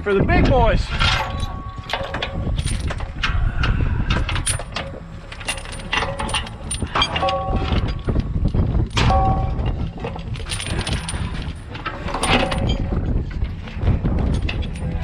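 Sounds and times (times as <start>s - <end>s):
low engine rumble: 0.0s - 15.0s
metallic clanks and rattles: 0.0s - 15.0s.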